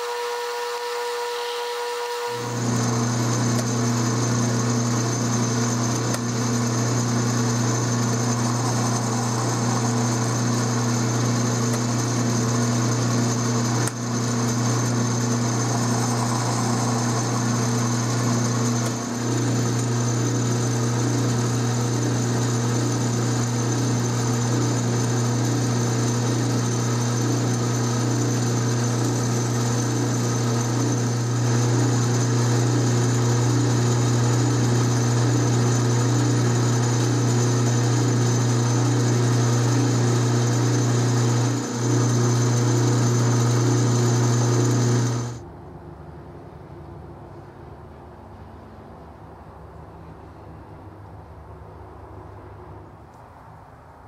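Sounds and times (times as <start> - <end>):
metal lathe humming: 0.0 - 45.4.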